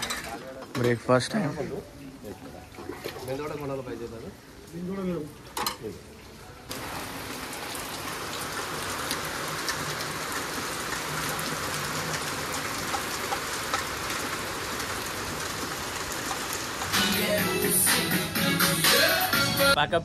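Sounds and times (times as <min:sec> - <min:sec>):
steady rain pouring: 0:00.0 - 0:19.8.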